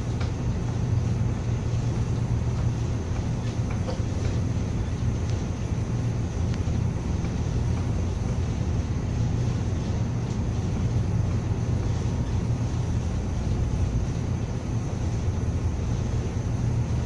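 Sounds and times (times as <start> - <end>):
ship engine low rumble: 0.0 - 17.0.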